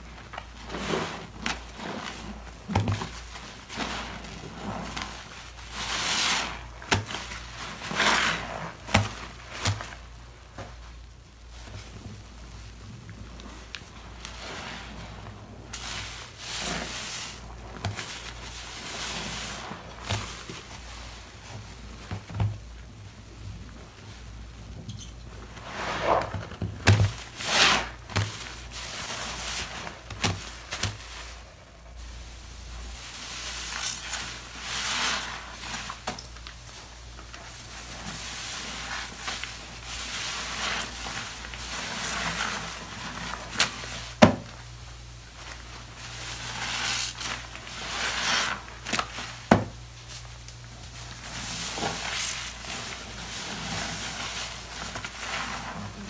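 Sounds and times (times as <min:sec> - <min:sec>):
sponge squelching: 0:00.0 - 0:22.4, 0:25.3 - 0:56.0.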